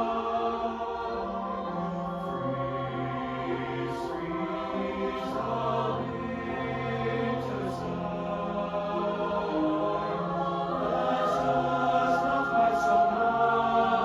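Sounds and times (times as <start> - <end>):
mixed choir singing: 0.0 - 14.0.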